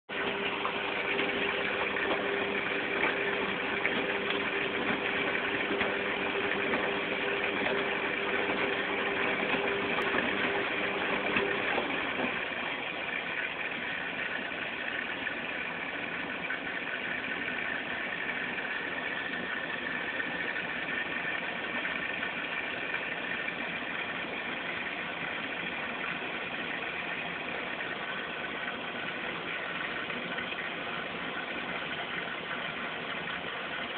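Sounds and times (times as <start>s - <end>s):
washing machine running: 0.1s - 33.9s.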